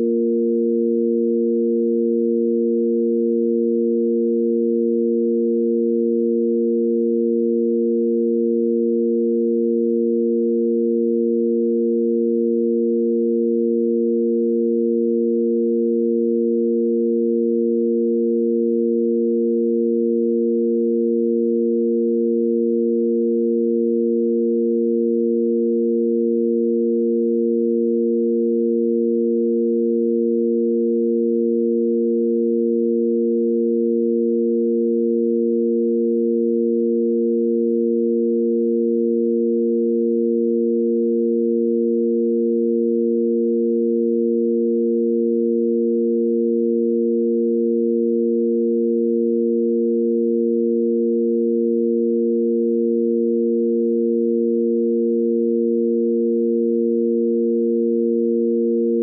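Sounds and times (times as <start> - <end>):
sine tone drone: 0.0 - 59.0.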